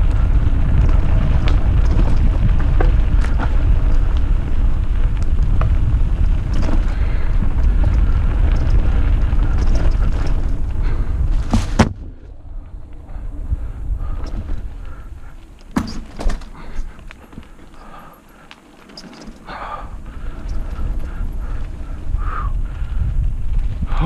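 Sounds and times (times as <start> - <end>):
wind on microphone: 0.0 - 17.9, 19.4 - 24.0
bike clicks and rattles: 0.0 - 24.0.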